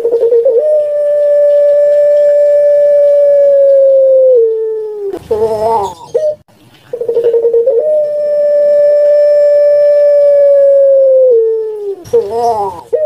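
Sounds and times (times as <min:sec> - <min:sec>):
dove hooting call: 0:00.0 - 0:13.0.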